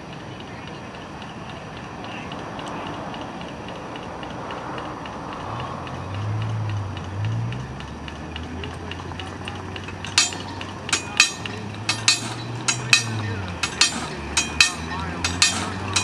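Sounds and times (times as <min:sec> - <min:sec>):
crossing signal bell clinking: 0:00.9 - 0:16.0.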